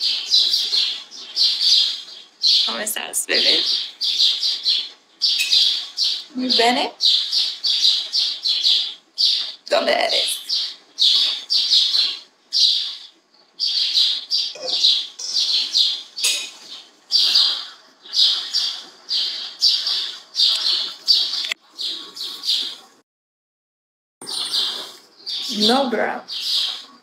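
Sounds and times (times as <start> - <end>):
small bird chirping: 0.0 - 22.9, 24.2 - 27.0.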